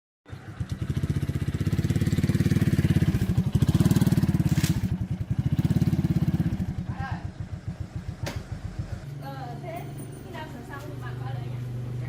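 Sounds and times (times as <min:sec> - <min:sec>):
small engine puttering: 0:00.3 - 0:12.0.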